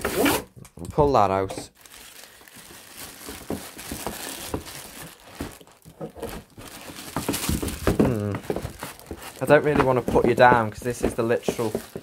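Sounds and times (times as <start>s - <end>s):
plastic wrapping crinkling: 1.1s - 12.0s
cardboard rustling: 1.7s - 12.0s.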